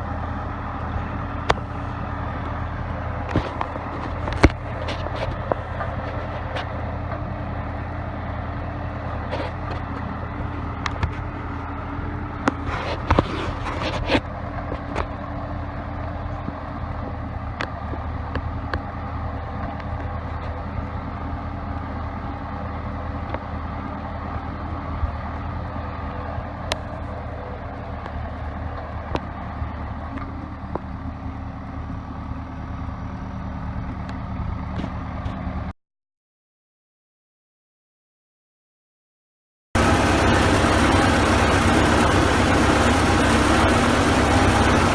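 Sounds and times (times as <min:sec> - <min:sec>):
diesel engine running: 0:00.0 - 0:35.8, 0:39.8 - 0:44.9.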